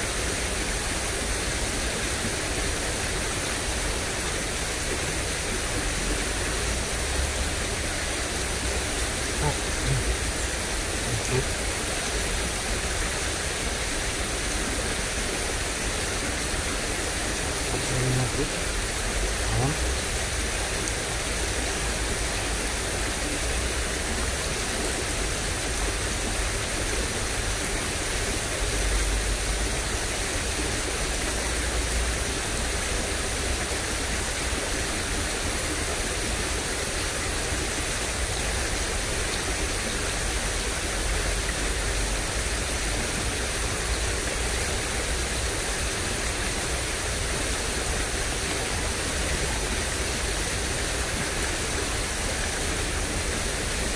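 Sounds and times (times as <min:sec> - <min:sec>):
water rushing in a ditch: 0:00.0 - 0:53.9.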